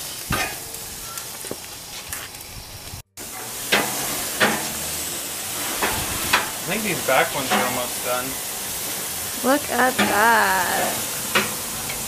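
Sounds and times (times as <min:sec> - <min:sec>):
sausages sizzling on grill: 0:00.0 - 0:12.0.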